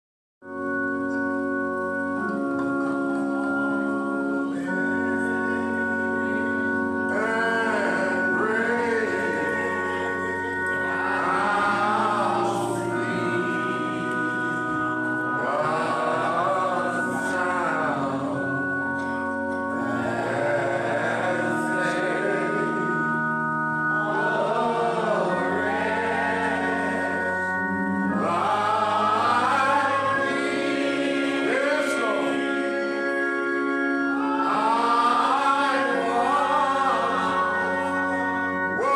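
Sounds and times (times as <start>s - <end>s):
organ chords: 0.4s - 38.9s
gospel singing: 0.6s - 38.9s.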